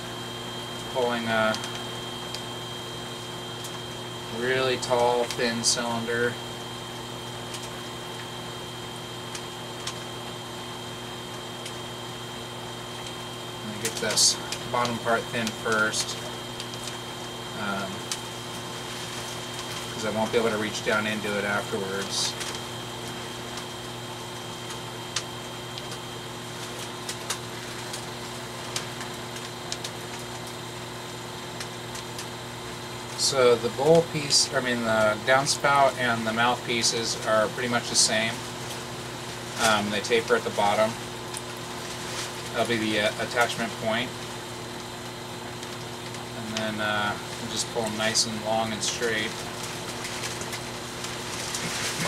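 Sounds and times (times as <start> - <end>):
pottery wheel motor hum: 0.0 - 52.0.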